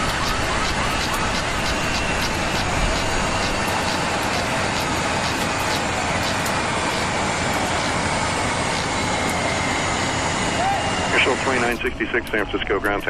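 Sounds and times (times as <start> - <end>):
aircraft cockpit noise: 0.0 - 13.0
faint falling whine: 0.0 - 13.0.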